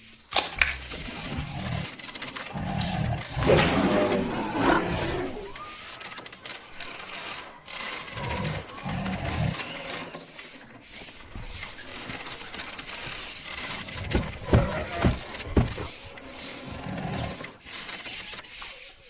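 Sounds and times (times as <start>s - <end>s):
fine mechanical clicking: 0.1s - 19.0s.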